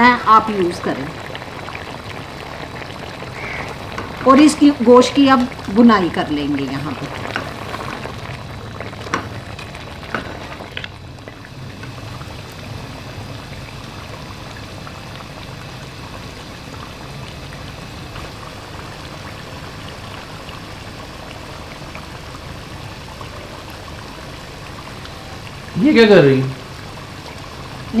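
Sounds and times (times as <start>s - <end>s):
curry bubbling and frying: 0.0s - 28.0s.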